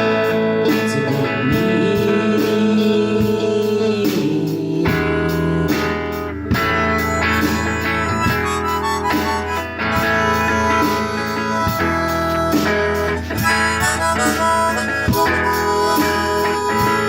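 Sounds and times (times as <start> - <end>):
bass: 0.0 - 17.0
guitar: 0.0 - 17.0
steady beat: 0.0 - 17.0.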